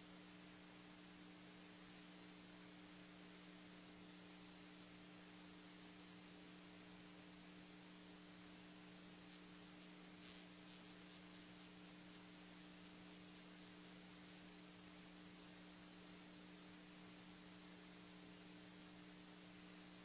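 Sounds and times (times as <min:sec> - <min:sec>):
faint electrical hum: 0:00.0 - 0:20.0
low hiss: 0:00.0 - 0:20.0.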